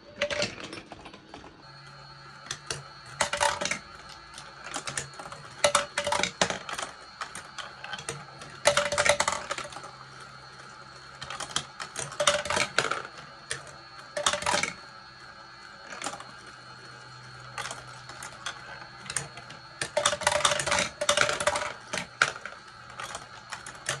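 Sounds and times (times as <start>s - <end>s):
marble clattering on plastic run: 0.2s - 1.4s, 2.4s - 14.8s, 15.8s - 24.0s.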